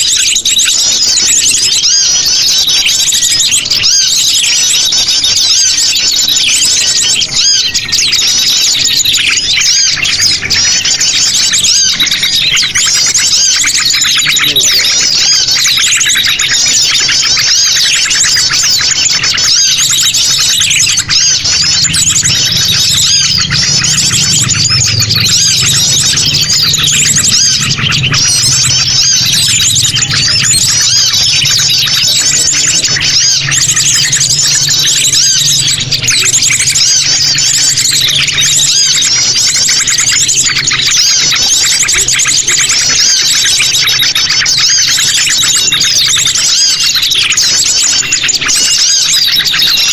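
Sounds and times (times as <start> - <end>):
birds chirping and whistling: 0.0 - 49.9.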